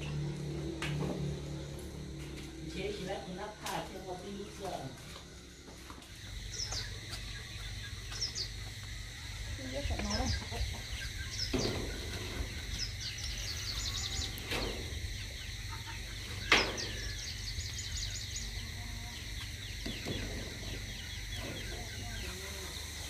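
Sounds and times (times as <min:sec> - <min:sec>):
birds chirping: 0:01.5 - 0:23.0.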